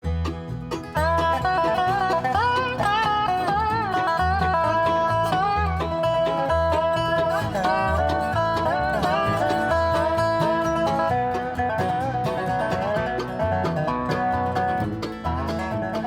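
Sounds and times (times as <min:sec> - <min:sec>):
upbeat bluegrass music: 0:00.0 - 0:16.0.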